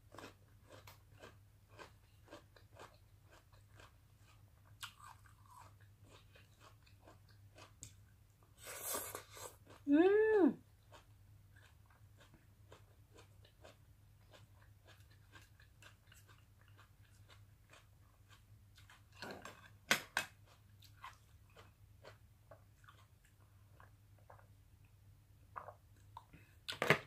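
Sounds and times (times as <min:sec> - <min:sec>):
faint low hum: 0:00.0 - 0:27.0
chewing food close-up: 0:00.1 - 0:08.0, 0:08.8 - 0:09.9, 0:10.6 - 0:25.0.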